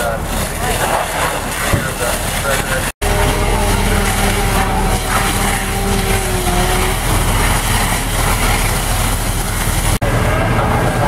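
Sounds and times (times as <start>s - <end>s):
hose streams spraying: 0.0s - 10.0s
heavy engine running: 0.0s - 11.0s.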